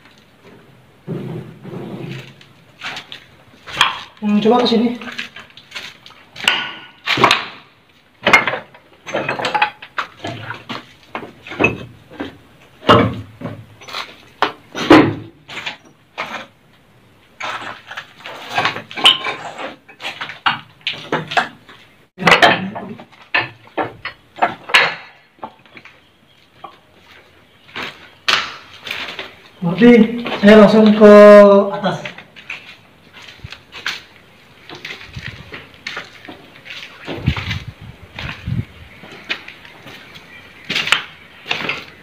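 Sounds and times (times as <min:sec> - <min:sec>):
footsteps on rubble: 0:00.0 - 0:14.8, 0:17.3 - 0:19.1, 0:22.9 - 0:42.0
debris scraping and knocking: 0:00.0 - 0:16.6, 0:17.4 - 0:31.3, 0:31.9 - 0:42.0.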